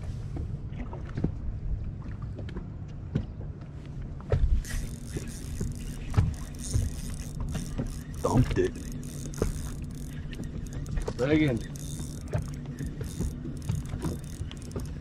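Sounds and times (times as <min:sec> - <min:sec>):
boat motor hum: 0:00.0 - 0:15.0.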